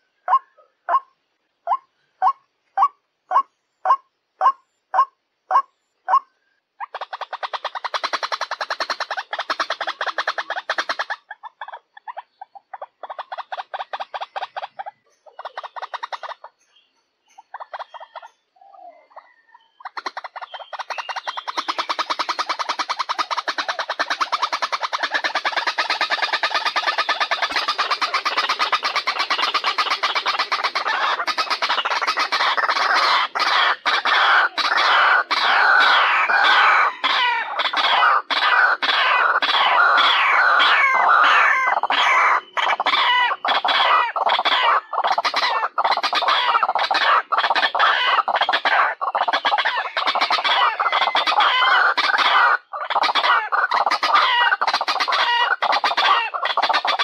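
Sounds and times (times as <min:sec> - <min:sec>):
bird calling harsh repeated notes: 0:01.7 - 0:18.4, 0:19.3 - 0:57.0.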